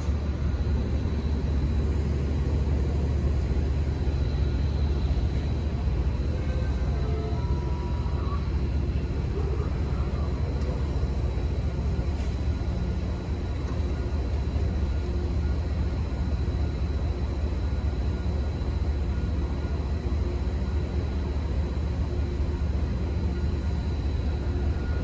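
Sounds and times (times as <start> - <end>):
diesel train idling rumble: 0.0 - 25.0
high whine: 0.0 - 25.0.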